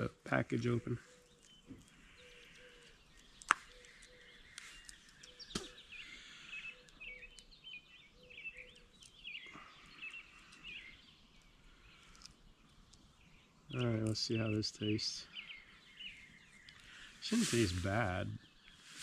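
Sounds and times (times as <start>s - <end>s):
songbirds chirping and warbling: 0.0s - 19.0s.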